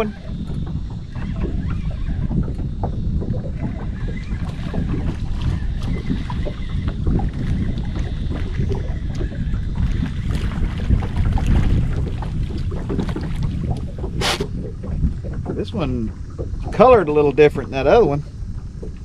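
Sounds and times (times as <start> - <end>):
small waves slapping boat hull: 0.0 - 19.0
wind buffeting microphone: 0.0 - 19.0.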